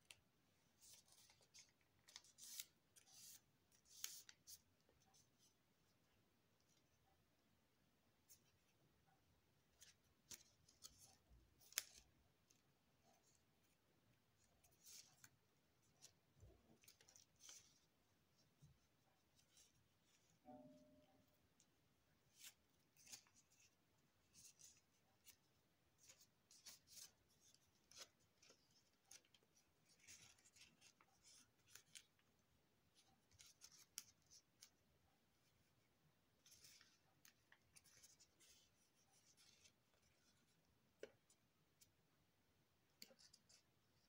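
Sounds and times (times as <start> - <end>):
paper being folded: 0.0 - 7.0, 9.6 - 20.4, 21.5 - 42.0.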